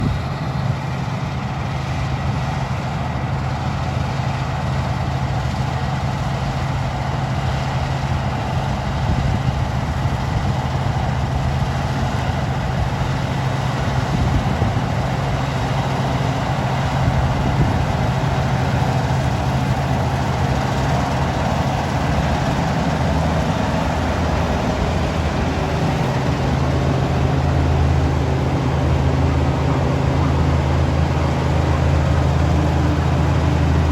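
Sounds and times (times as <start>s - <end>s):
combine harvester engine drone: 0.0s - 33.9s
rush of machine noise: 0.0s - 33.9s.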